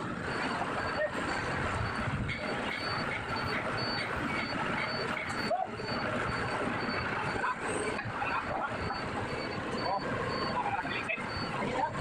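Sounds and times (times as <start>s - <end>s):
heavy machinery rumbling: 0.0s - 12.0s
high-pitched reversing alarm beeps: 0.2s - 12.0s.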